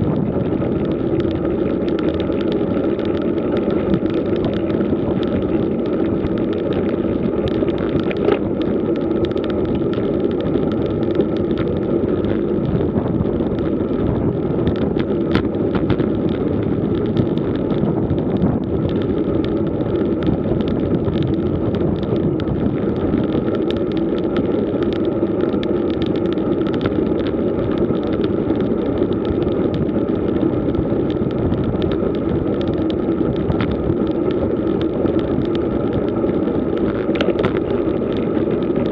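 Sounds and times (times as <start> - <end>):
tyre and road hum: 0.0 - 38.9
wind rush: 0.0 - 38.9.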